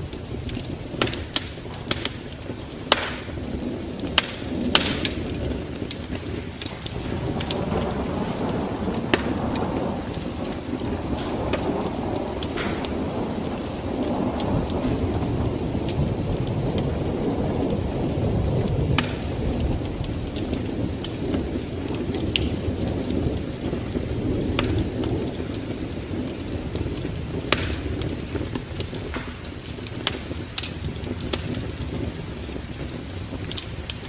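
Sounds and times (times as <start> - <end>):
low rumble of thunder: 0.0 - 34.0
wood fire crackling: 0.0 - 34.0.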